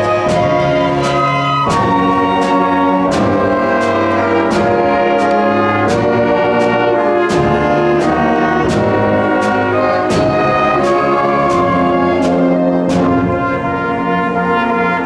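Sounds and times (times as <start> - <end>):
steady struck beat: 0.0 - 14.0
symphonic band playing: 0.0 - 15.0.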